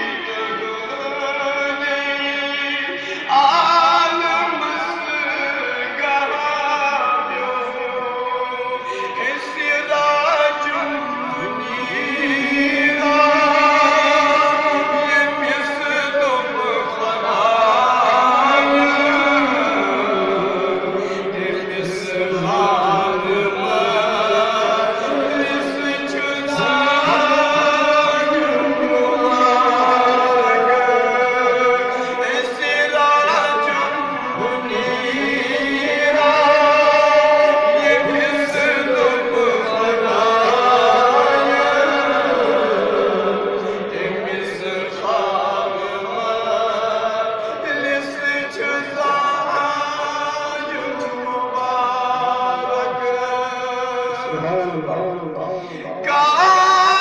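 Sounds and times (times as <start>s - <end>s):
person chanting: 0.0s - 57.0s.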